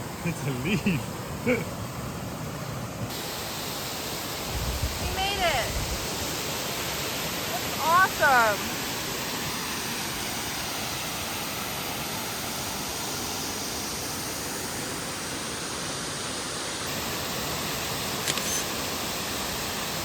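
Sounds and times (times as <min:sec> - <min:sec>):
waterfall rushing: 0:03.1 - 0:20.0.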